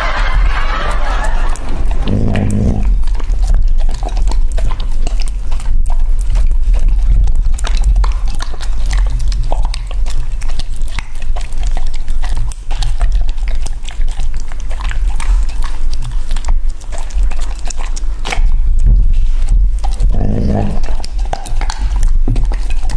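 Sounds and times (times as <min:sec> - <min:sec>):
dog chewing and licking: 0:00.0 - 0:22.9
steady low hum: 0:00.0 - 0:22.9
teeth clicking against plate: 0:01.6 - 0:22.9.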